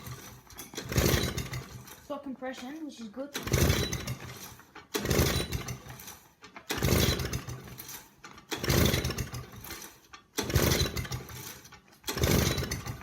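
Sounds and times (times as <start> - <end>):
lawn mower engine cranking: 0.0 - 13.0.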